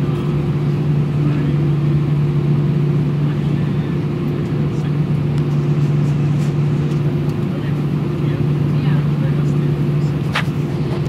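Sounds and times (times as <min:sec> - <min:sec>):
aircraft cabin engine hum: 0:00.0 - 0:11.0.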